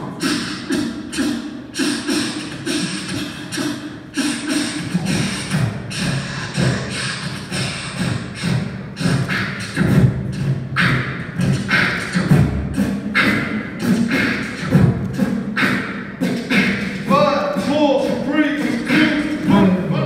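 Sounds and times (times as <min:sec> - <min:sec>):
beatboxing: 0:00.0 - 0:20.0.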